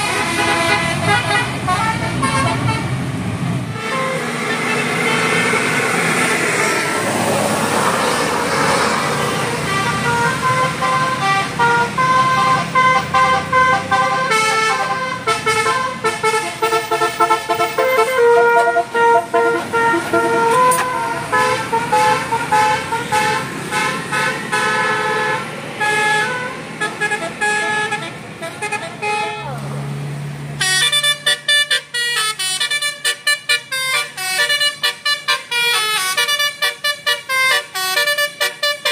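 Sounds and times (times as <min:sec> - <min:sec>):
bus horn playing melody: 0:00.0 - 0:03.0, 0:03.7 - 0:07.4, 0:08.8 - 0:29.5, 0:30.6 - 0:38.9
road noise: 0:00.0 - 0:38.9
vehicle engine: 0:00.0 - 0:38.9.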